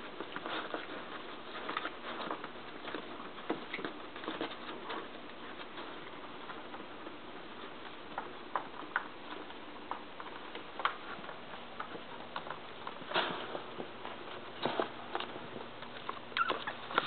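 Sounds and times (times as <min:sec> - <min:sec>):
puppy claws clicking and tapping: 0:00.0 - 0:17.0.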